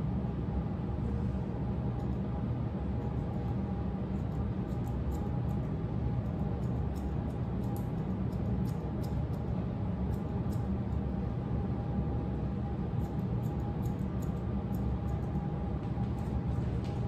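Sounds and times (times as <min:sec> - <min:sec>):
steady low hum: 0:00.0 - 0:17.0
scissors snipping fur: 0:01.9 - 0:11.4, 0:12.4 - 0:17.0.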